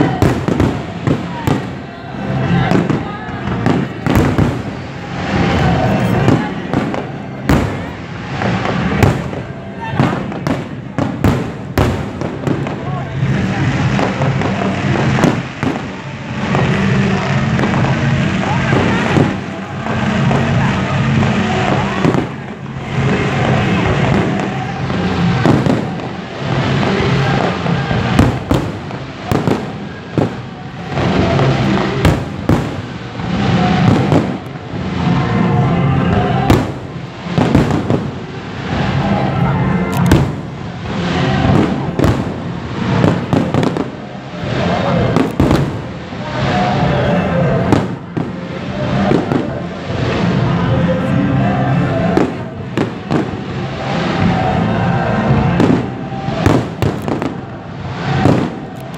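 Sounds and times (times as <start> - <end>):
crackling hiss of fireworks: 0.0 - 58.9
fireworks bursting with sharp bangs: 0.0 - 58.9.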